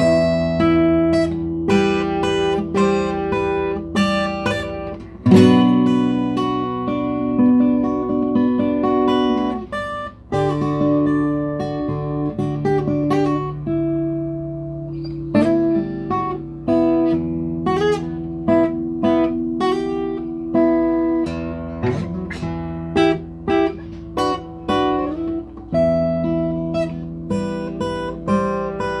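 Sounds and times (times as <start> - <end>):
guitar plucking notes: 0.0 - 29.0.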